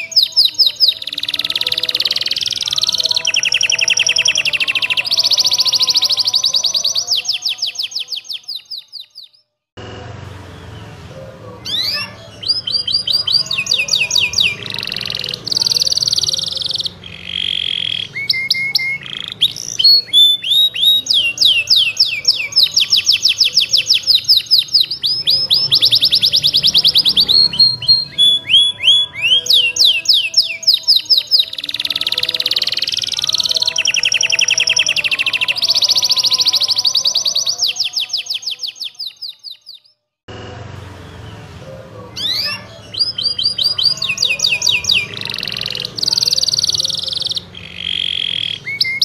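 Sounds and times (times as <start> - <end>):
canary singing trills: 0.0 - 9.5, 10.4 - 40.0, 41.0 - 49.0.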